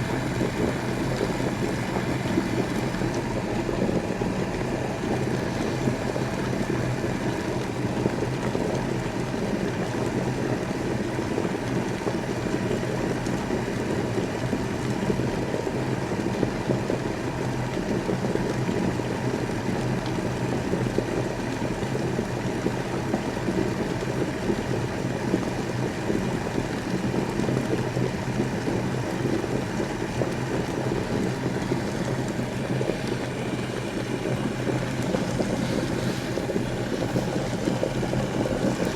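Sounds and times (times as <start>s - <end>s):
electric kettle boiling water: 0.0s - 38.9s.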